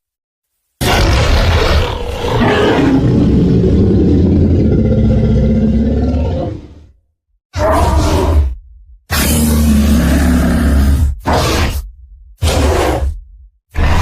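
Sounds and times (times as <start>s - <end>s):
deep growling monster roar: 0.8s - 11.8s, 12.4s - 14.0s.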